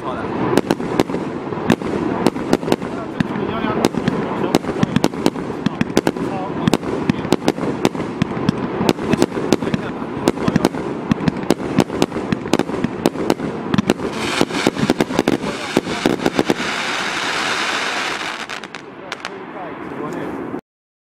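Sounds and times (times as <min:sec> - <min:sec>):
fireworks bangs: 0:00.0 - 0:19.8
crackling hiss of fireworks: 0:00.0 - 0:20.6.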